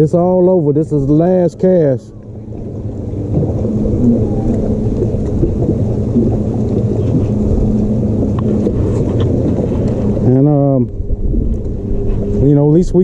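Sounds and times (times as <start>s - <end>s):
faint hum: 0.0s - 13.0s
wind buffeting microphone: 0.0s - 13.0s.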